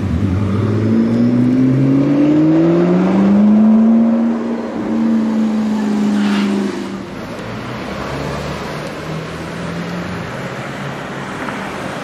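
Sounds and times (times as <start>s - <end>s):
car engine droning: 0.0s - 12.0s
street noise: 0.0s - 12.0s.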